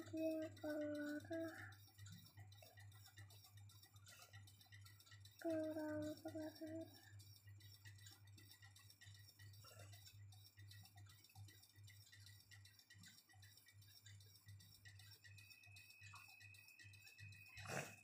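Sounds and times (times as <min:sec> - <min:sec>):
soft ticks: 0:00.0 - 0:17.9.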